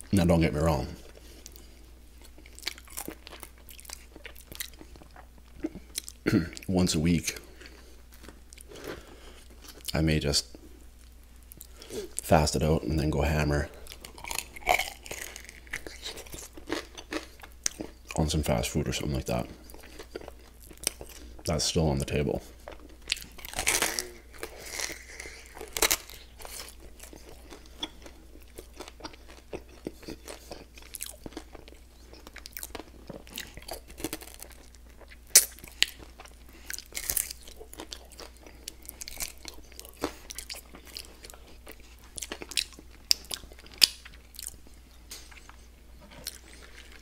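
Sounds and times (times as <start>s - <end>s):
chewing and crunching: 0.6s - 12.3s, 13.1s - 47.0s.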